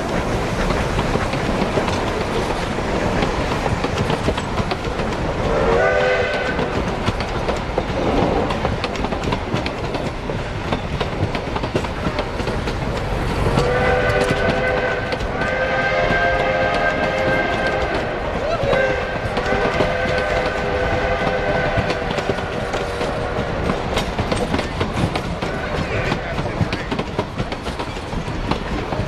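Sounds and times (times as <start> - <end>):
train coaches rumbling past: 0.0 - 29.0
wheels clickety-clack over rail joints: 0.0 - 29.0.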